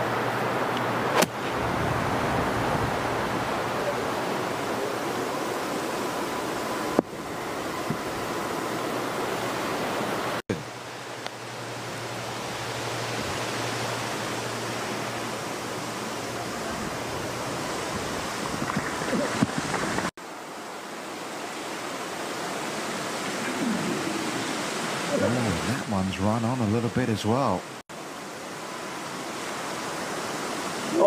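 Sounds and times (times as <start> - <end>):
wind hiss: 0.0 - 31.0.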